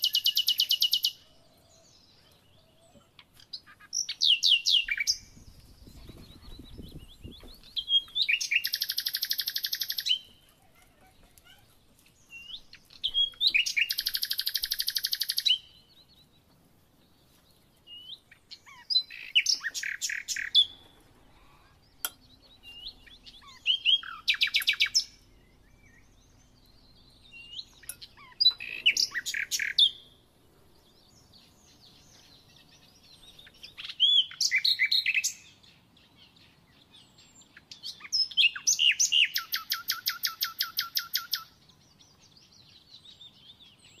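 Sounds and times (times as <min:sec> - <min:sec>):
songbird chirps and trills: 0:00.0 - 0:44.0.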